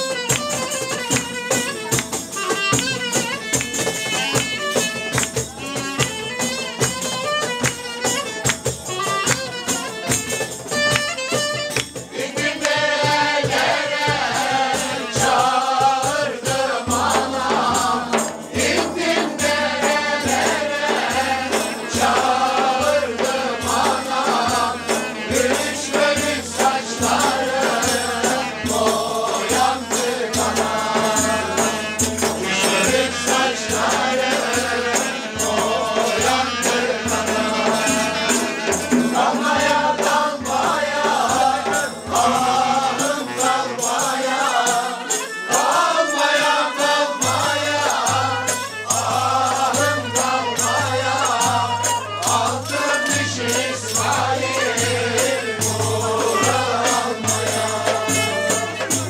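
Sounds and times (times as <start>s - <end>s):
frame drum beat: 0.0s - 59.0s
men singing together: 0.0s - 59.0s.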